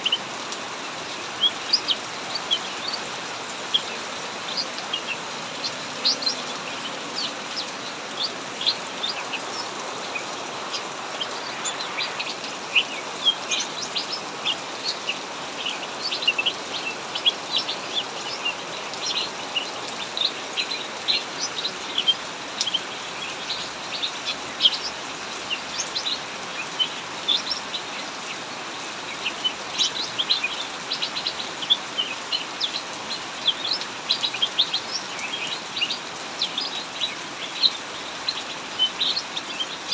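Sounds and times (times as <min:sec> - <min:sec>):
heavy rain hiss: 0:00.0 - 0:39.9
songbird chirping rapidly: 0:00.0 - 0:39.9.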